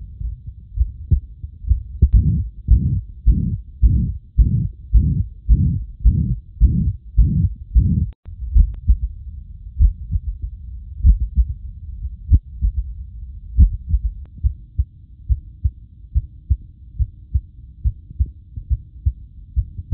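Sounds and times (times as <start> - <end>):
regular lub-dub heartbeat: 0.0 - 19.9
uneven heartbeat with murmur: 0.0 - 19.9.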